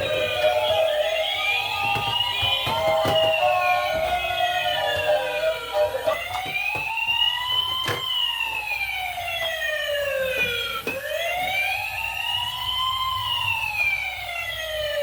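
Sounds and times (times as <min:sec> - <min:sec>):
electronic siren wailing: 0:00.0 - 0:15.0.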